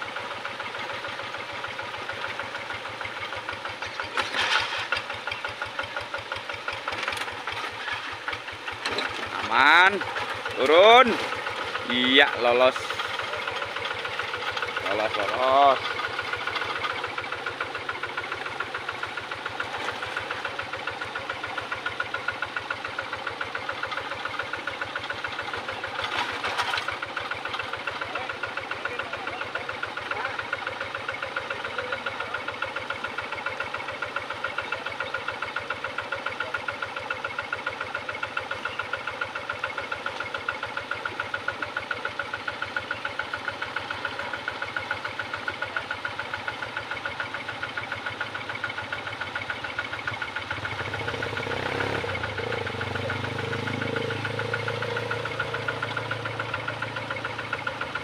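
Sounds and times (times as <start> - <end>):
diesel engine putter: 0.0 - 58.0.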